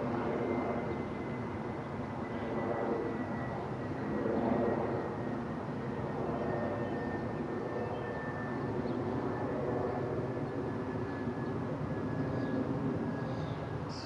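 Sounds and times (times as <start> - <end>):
aeroplane drone: 0.0 - 14.0.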